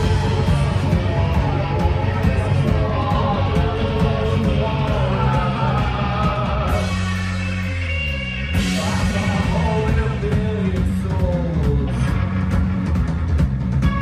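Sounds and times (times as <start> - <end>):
person singing: 0.0 - 12.2
live rock band playing: 0.0 - 14.0.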